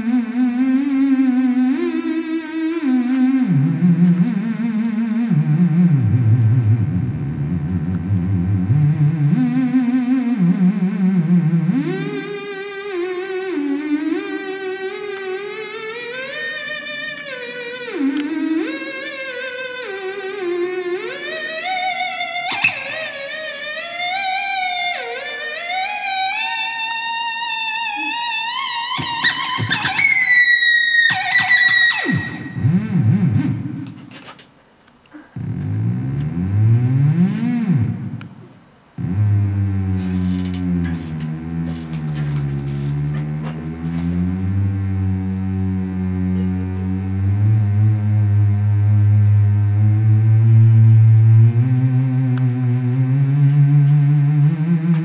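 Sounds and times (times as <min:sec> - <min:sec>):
theremin playing slow melody: 0:00.0 - 0:34.2, 0:35.1 - 0:55.0.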